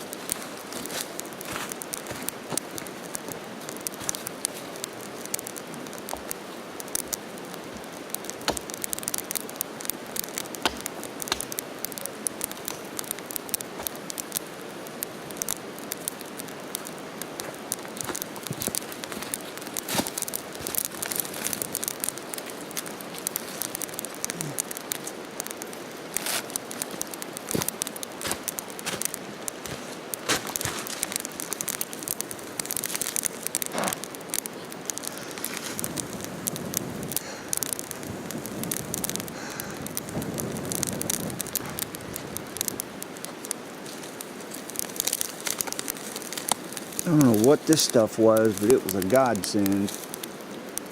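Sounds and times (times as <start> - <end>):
campfire crackling: 0.0 - 50.9
rustling of dry fuel: 0.0 - 50.9.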